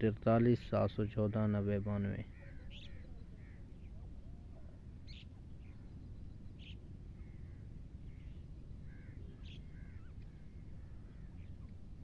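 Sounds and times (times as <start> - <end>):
steady low rumble: 0.0 - 12.0
soft curved bird calls: 1.9 - 12.0
faint bird chirps: 2.1 - 12.0.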